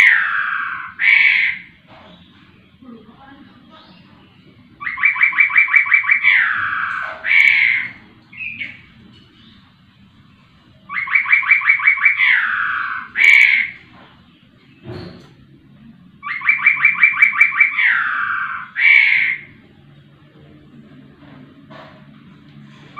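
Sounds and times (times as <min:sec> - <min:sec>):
songbird singing: 0:00.0 - 0:21.3.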